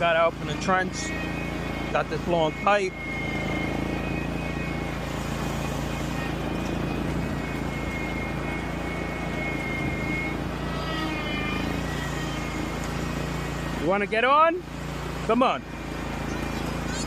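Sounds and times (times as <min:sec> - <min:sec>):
mower engine running: 0:00.0 - 0:17.0.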